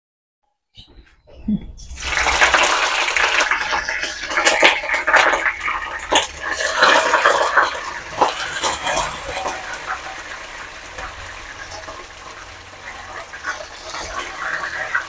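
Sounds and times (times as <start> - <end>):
water running and splashing: 1.8 - 15.0.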